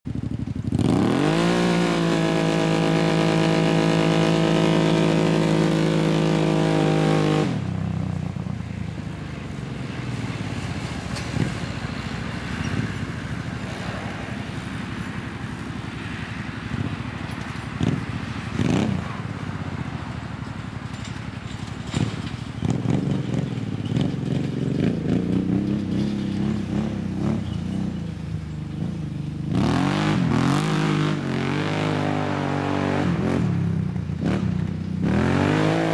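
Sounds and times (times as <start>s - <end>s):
engine revving: 0.2s - 8.3s, 8.9s - 35.9s.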